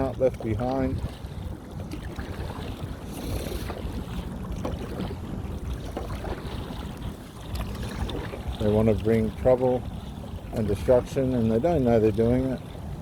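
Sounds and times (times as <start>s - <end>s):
water lapping around boat: 0.0s - 13.0s
wind buffeting microphone: 0.0s - 13.0s.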